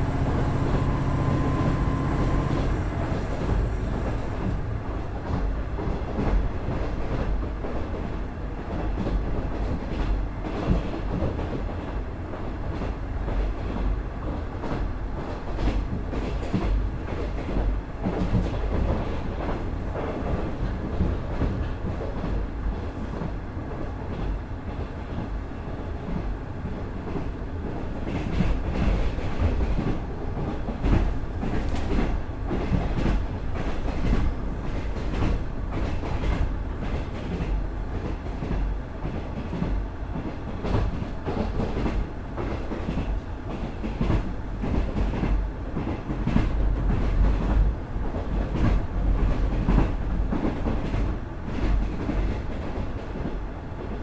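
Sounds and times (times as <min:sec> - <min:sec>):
diesel railcar rumbling: 0:00.0 - 0:54.0.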